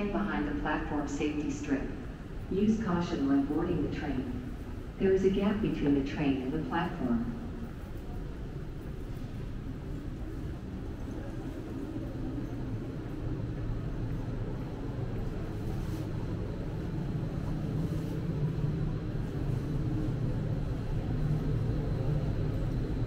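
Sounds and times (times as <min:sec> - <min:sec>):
train rumbling with low hum: 0:00.0 - 0:23.0.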